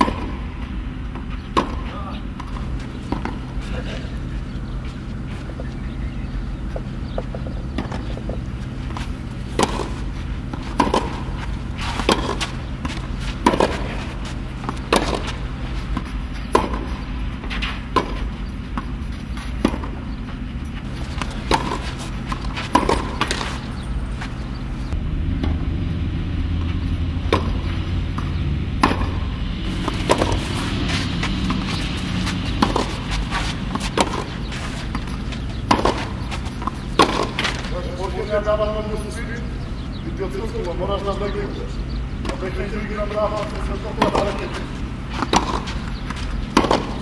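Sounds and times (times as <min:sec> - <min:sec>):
balls bouncing on clay court: 0:00.0 - 0:25.6, 0:26.6 - 0:47.0
steady low hum: 0:00.0 - 0:47.0
tennis balls struck by rackets: 0:00.0 - 0:47.0.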